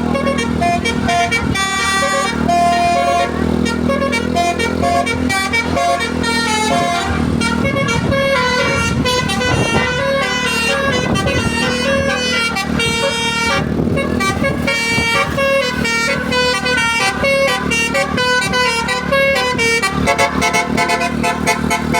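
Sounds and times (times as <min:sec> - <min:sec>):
musical air horn playing tune: 0:00.0 - 0:21.9.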